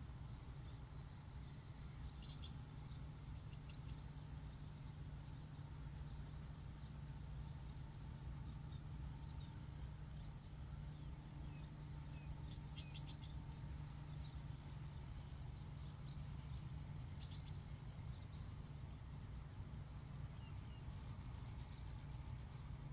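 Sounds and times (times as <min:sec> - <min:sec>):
insects droning: 0:00.0 - 0:22.9
low steady rumble: 0:00.0 - 0:22.9.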